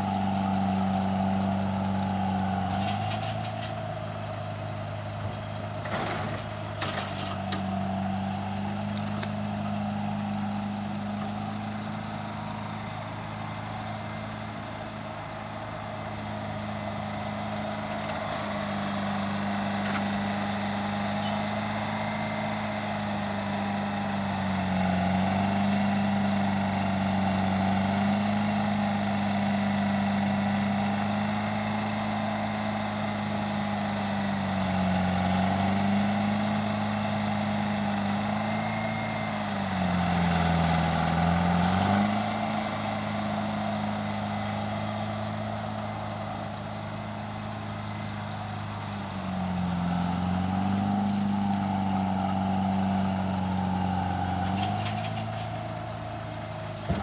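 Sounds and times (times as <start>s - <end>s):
engine labouring under load: 0.0s - 57.0s.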